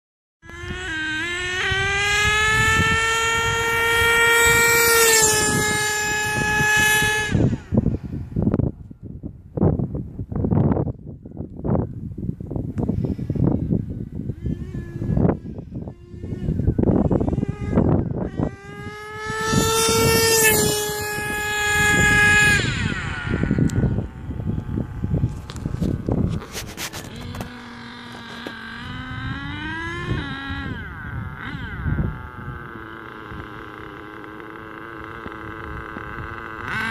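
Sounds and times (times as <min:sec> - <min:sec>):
rc truck engine whining: 0:00.4 - 0:08.6, 0:12.8 - 0:36.9.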